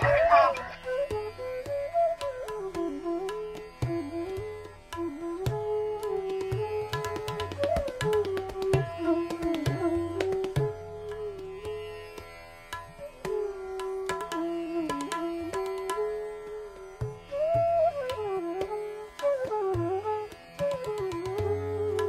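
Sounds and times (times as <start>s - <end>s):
bansuri flute melody: 0.0s - 22.0s
tabla strokes: 0.0s - 22.0s.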